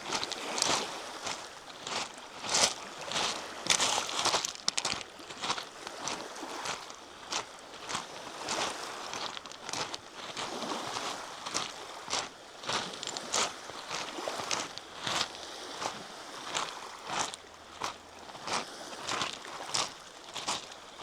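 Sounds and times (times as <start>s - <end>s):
footsteps on a trail: 0.0s - 21.0s.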